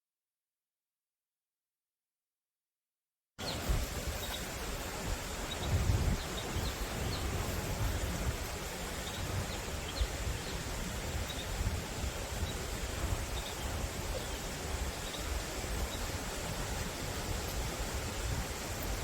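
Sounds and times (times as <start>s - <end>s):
steady rushing hiss: 3.4s - 19.0s
wind buffeting microphone: 3.4s - 19.0s.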